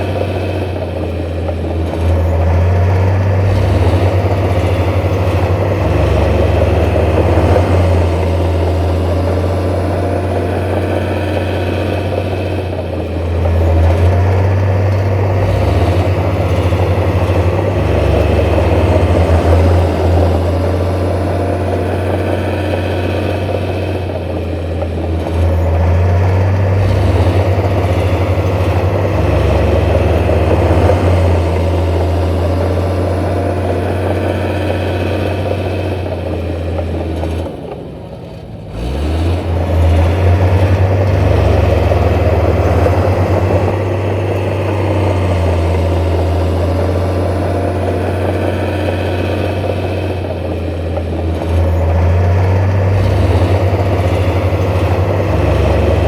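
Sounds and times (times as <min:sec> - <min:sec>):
heavy diesel machinery engine running: 0:00.0 - 0:56.0.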